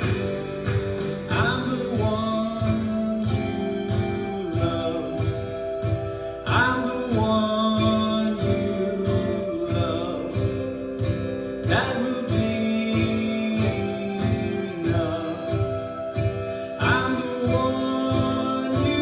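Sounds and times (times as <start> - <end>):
man singing: 0.0 - 19.0
strummed acoustic guitar: 0.0 - 19.0.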